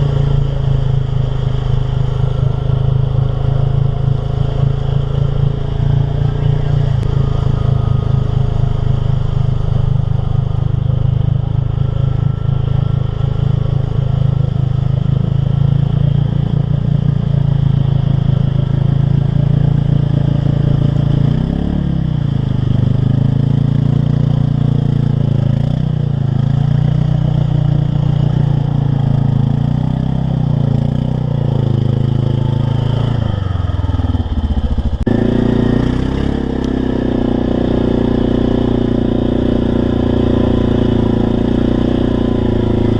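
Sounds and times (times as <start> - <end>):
loud engine revving: 0.0 - 42.9.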